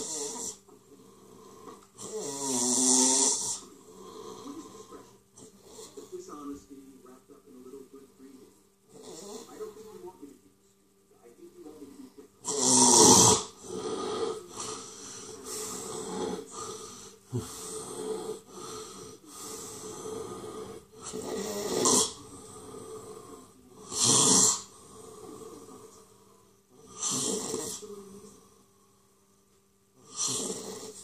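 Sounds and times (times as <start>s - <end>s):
quiet breaths: 0.0s - 31.0s.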